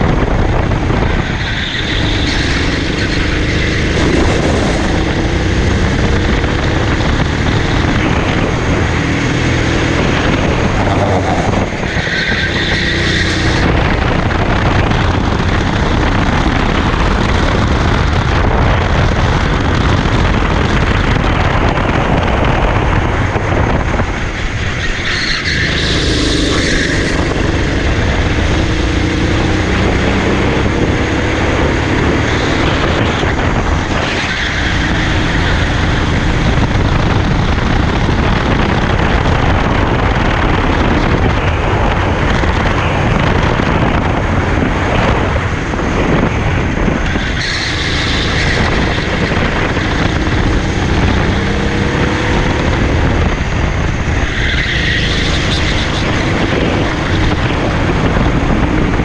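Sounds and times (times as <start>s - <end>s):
racing kart engine running hard: 0.0s - 59.0s.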